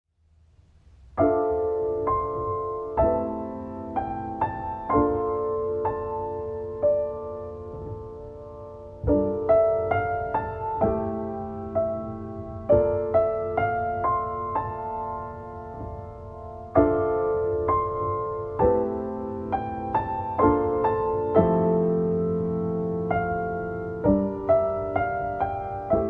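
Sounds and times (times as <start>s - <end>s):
piano music: 0.9s - 26.0s.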